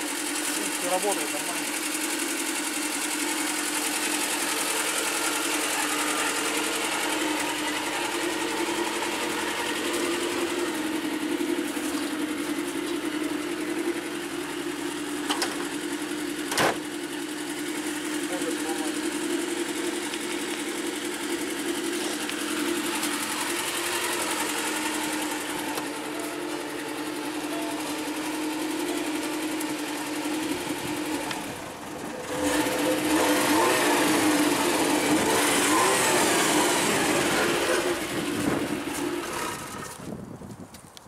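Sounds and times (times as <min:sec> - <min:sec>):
car engine idling: 0:00.0 - 0:40.1.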